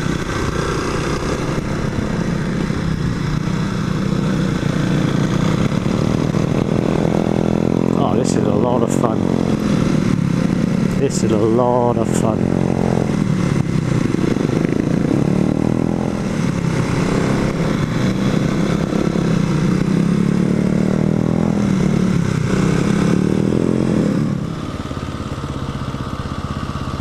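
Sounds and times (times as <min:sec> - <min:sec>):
motorcycle engine under load: 0:00.0 - 0:27.0.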